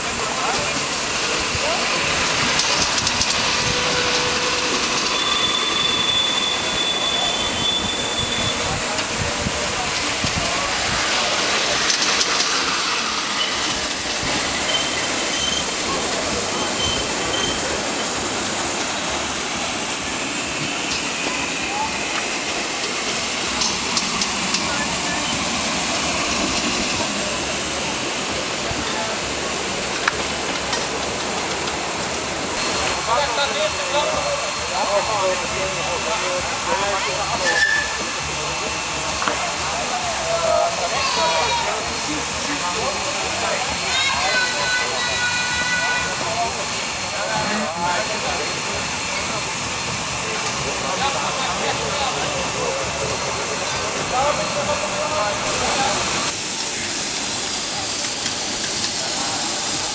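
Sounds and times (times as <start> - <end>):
high steam whistle: 0.0 - 30.4, 32.5 - 52.8
steam hissing: 0.0 - 59.9.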